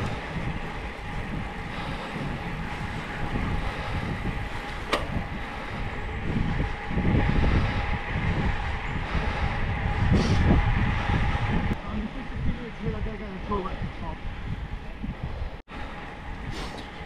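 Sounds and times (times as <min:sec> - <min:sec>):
bicycle riding noise: 0:00.0 - 0:17.0
wind rumbling on microphone: 0:00.0 - 0:17.0.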